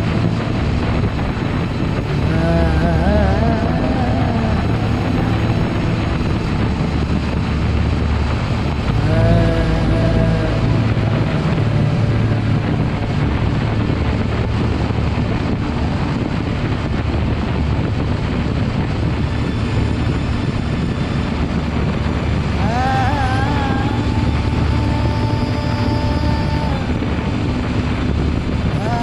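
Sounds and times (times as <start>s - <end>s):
motorcycle engine cruising: 0.0s - 29.0s
wavering tone with overtones: 0.0s - 29.0s
wind rush on microphone: 0.0s - 29.0s.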